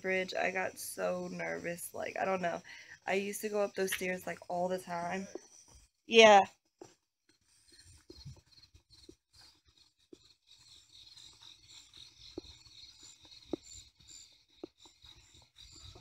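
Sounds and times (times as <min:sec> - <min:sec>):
night insects chirring: 0:00.0 - 0:05.7, 0:07.7 - 0:16.0.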